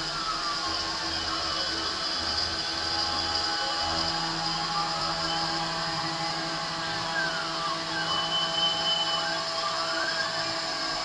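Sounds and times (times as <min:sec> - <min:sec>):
router spindle whine: 0:00.0 - 0:11.0
stepper motors gliding in pitch: 0:00.0 - 0:11.0.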